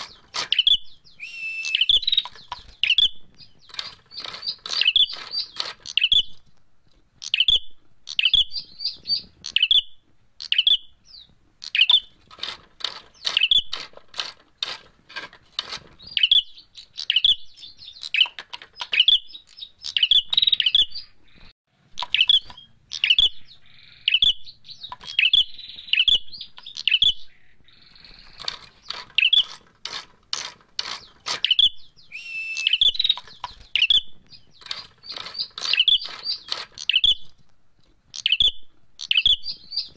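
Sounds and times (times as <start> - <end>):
bird sharp rapid chips: 0.0 - 6.4, 7.2 - 37.4.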